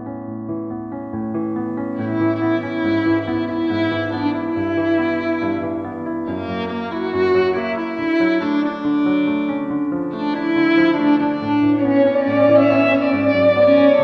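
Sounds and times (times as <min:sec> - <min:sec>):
violin melody in long bowed notes: 0:01.6 - 0:14.0
held cello line: 0:01.9 - 0:14.0
second violin: 0:01.9 - 0:14.0.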